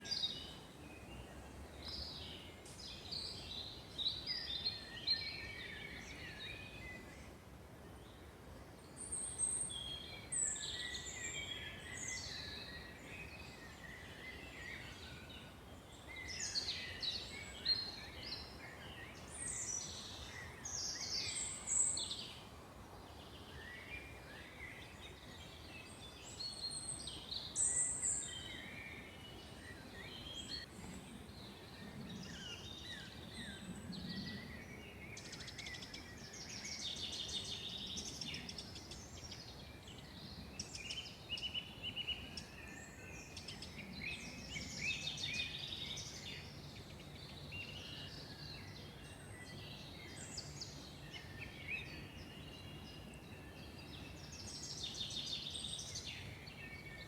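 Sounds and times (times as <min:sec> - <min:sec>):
faint steady hiss: 0:00.0 - 0:57.0
songbirds singing: 0:00.0 - 0:57.0.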